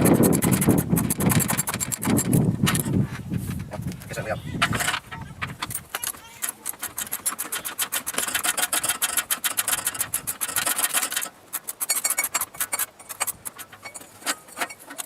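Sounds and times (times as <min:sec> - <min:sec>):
hand ratchet clicking: 0:00.0 - 0:03.0, 0:05.6 - 0:15.0.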